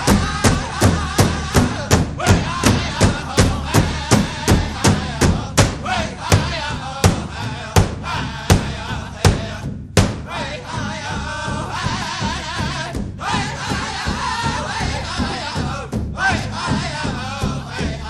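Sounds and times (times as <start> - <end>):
background music with percussion: 0.0 - 18.0.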